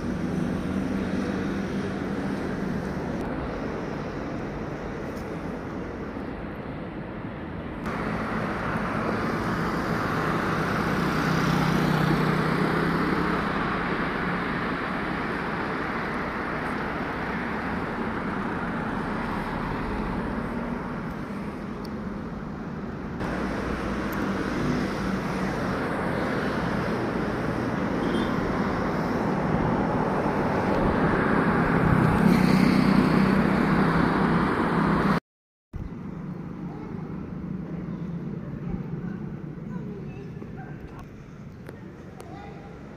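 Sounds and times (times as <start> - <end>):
road traffic noise: 0.0 - 35.2, 35.8 - 42.9.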